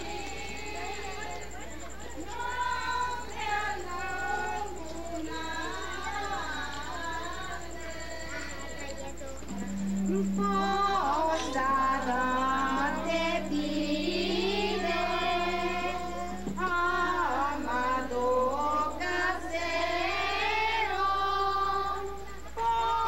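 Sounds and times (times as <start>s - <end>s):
women and children singing: 0.0s - 23.0s.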